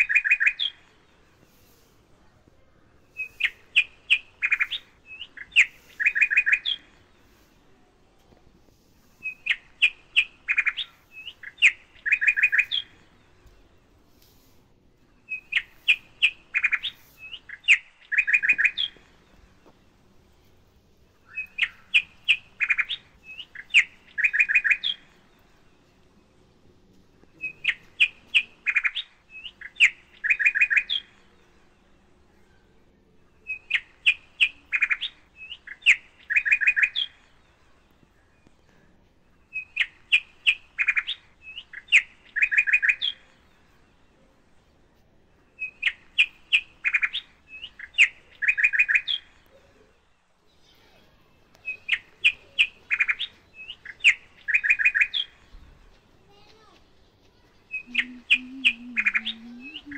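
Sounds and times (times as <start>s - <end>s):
bird chirping: 0.0s - 1.9s, 2.9s - 7.6s, 8.3s - 59.9s.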